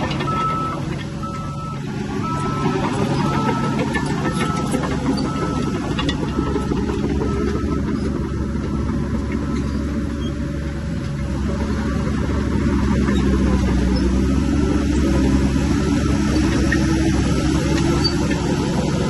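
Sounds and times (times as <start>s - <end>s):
heavy diesel machinery rumbling: 0.0s - 19.0s.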